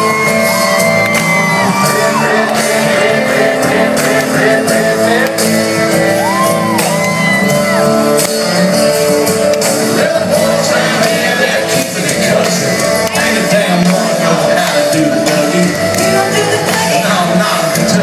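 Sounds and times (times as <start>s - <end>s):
country band with singer: 0.0s - 18.0s
crowd shouting and whooping: 0.0s - 18.0s.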